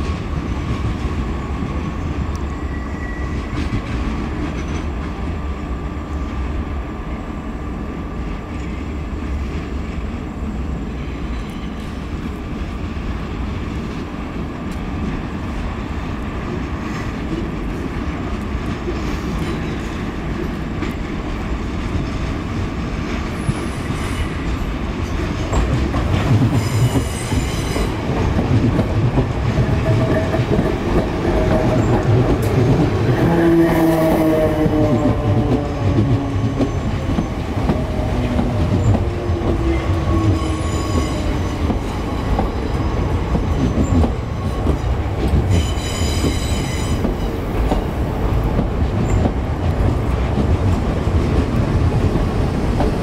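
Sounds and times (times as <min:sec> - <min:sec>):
train wheel clatter: 0:00.0 - 0:05.4, 0:13.8 - 0:53.0
train whine: 0:00.0 - 0:53.0.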